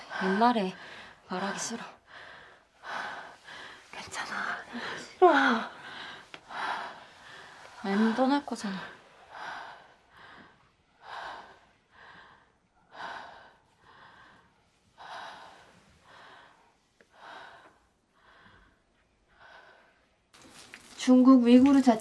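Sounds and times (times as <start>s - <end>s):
woman breathing quickly: 0.0s - 20.3s.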